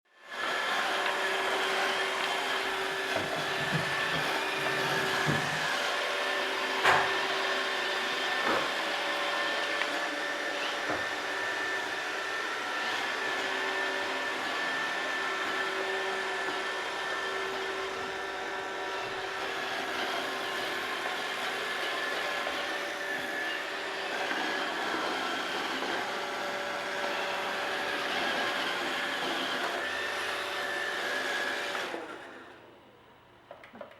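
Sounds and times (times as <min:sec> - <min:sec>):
robot vacuum whirring: 0:00.2 - 0:32.8.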